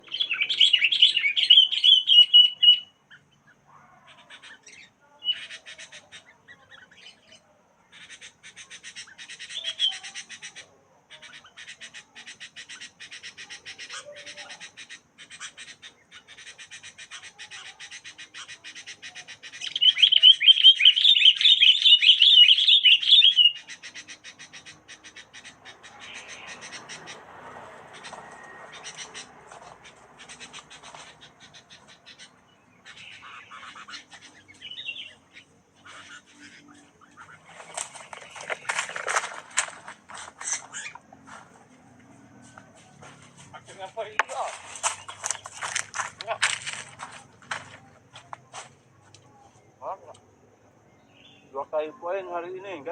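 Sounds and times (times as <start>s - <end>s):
bird chirping squeaky calls: 0.0s - 52.9s.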